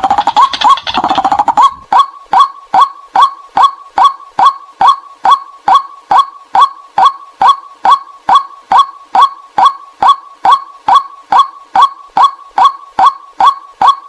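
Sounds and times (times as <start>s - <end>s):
waterhen call notes: 0.0s - 14.0s.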